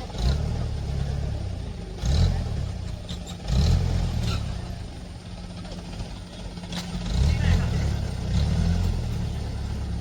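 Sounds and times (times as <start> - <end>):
vehicle engine revving: 0.0 - 5.2, 5.8 - 10.0.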